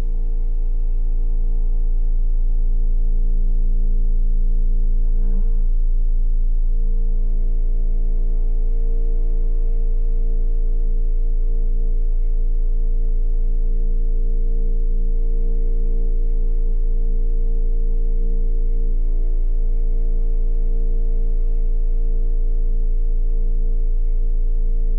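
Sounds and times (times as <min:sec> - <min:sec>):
dark ambient drone music: 0:00.0 - 0:24.9
deep low rumble: 0:00.0 - 0:24.9.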